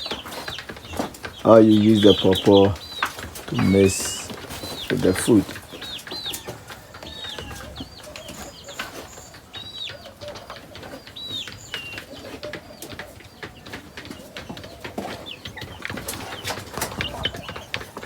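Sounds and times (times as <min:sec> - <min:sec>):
young chickens peeping: 0:00.0 - 0:18.0.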